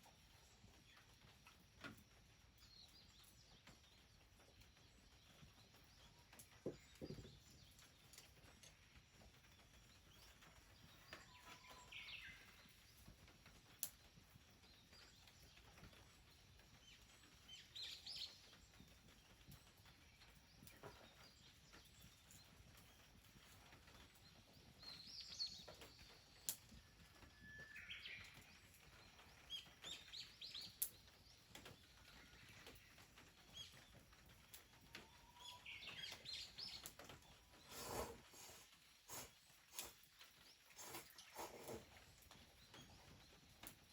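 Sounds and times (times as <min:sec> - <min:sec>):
bird chirping: 0:02.6 - 0:13.2, 0:16.8 - 0:23.1, 0:23.9 - 0:43.9.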